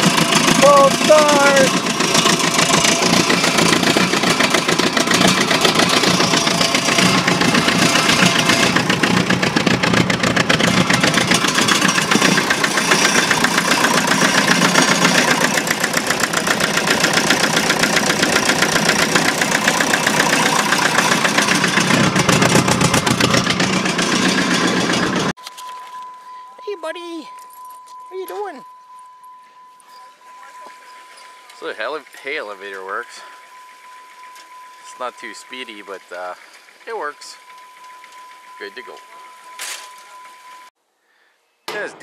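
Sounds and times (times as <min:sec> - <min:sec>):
engine running: 0:00.0 - 0:40.7.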